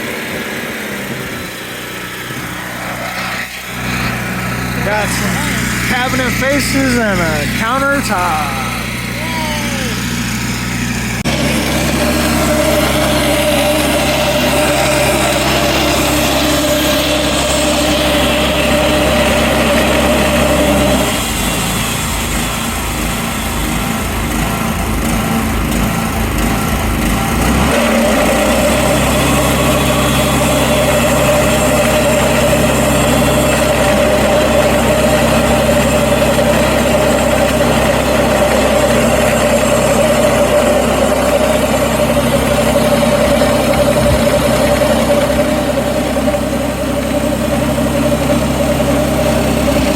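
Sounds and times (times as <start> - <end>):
sawmill engine running: 0.0 - 49.9.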